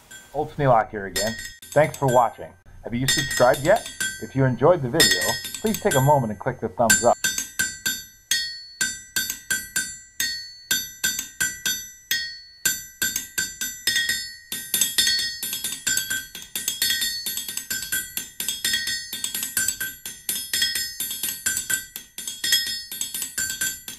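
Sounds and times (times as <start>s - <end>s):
music of repeated struck notes: 3.0s - 23.9s.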